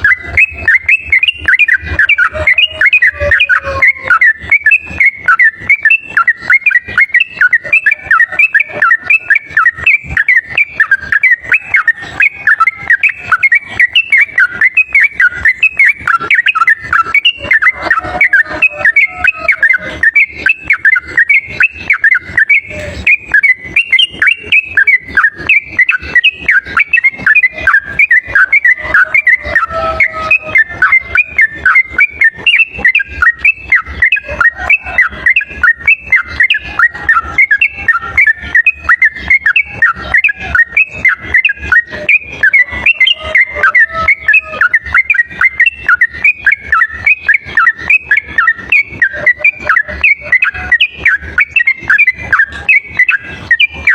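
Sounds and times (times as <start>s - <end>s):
bird chatter of whistled chirps: 0.0s - 53.9s.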